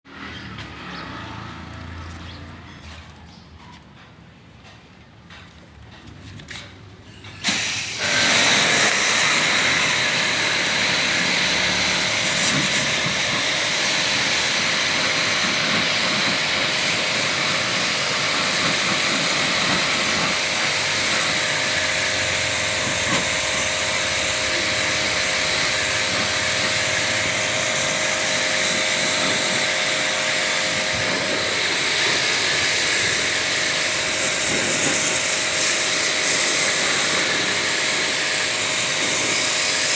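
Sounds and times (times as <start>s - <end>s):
pressure washer spraying water: 7.4s - 39.9s.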